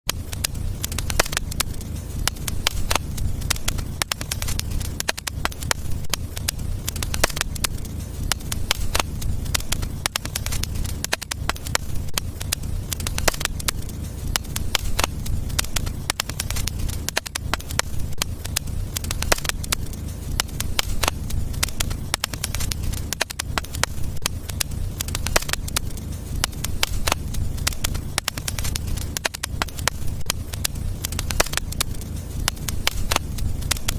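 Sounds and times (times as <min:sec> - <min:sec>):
fire crackling and popping: 0:00.0 - 0:33.9
low fire rumble: 0:00.1 - 0:33.9.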